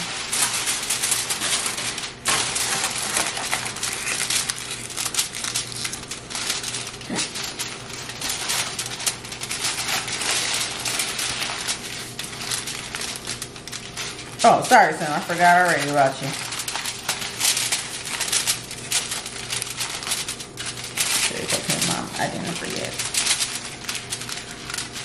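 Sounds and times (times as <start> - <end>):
aluminium foil crinkling: 0.0 - 25.0.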